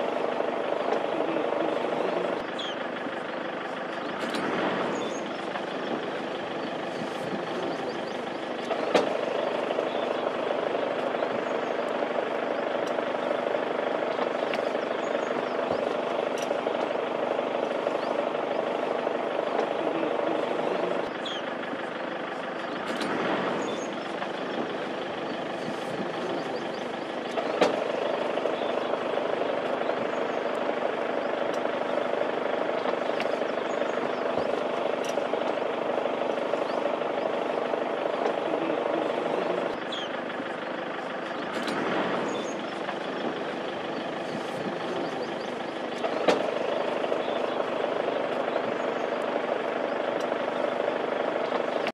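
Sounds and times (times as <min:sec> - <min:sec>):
vehicle engine idling: 0:00.0 - 0:51.9.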